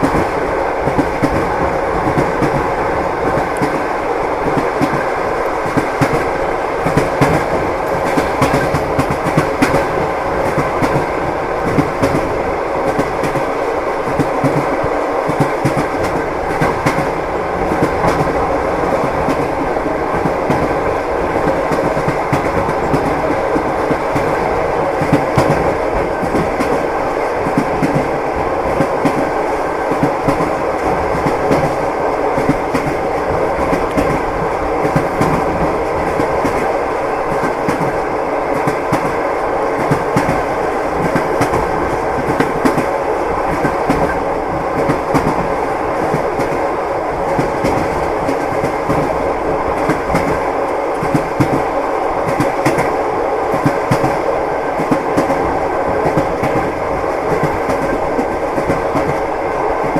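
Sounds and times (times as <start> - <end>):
railway carriage rumbling: 0.0 - 59.9
train wheels clattering over rails: 0.0 - 59.9.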